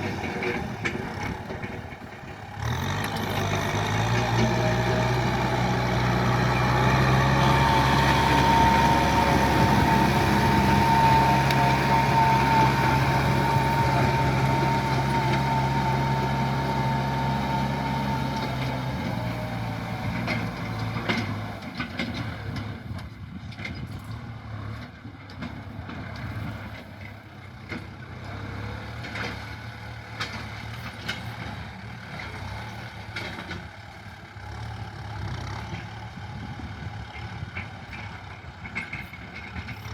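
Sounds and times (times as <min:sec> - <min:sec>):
tractor engine whining under load: 0:00.0 - 0:39.9.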